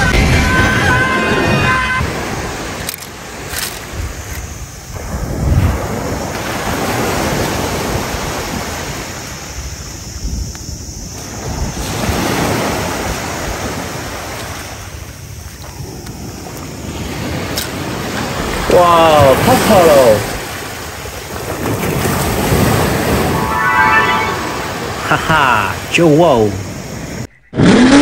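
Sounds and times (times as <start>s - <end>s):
wind rumbling on microphone: 0.0s - 23.6s
small waves breaking on a beach: 1.7s - 27.2s.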